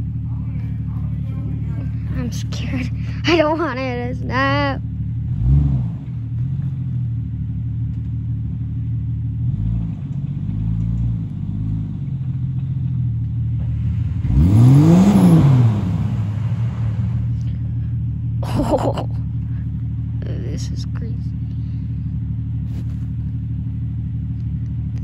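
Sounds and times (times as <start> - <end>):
vehicle engines running low: 0.0 - 25.0
engine revving under load: 0.6 - 7.3, 9.2 - 25.0.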